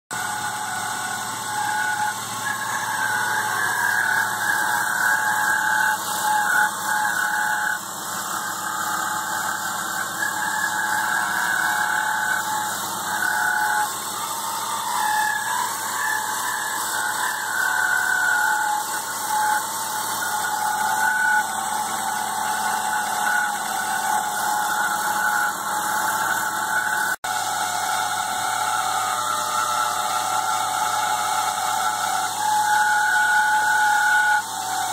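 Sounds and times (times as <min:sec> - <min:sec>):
car engine running: 0:00.1 - 0:32.4
belt drive whine: 0:00.1 - 0:34.9.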